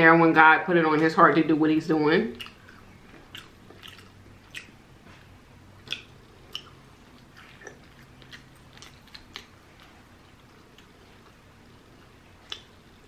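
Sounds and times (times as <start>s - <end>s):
chewing with wet mouth smacks: 2.3s - 13.0s.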